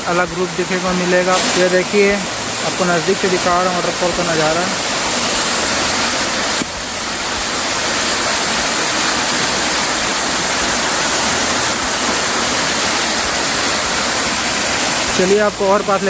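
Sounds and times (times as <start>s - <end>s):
waterfall rushing onto rocks: 0.0s - 16.0s.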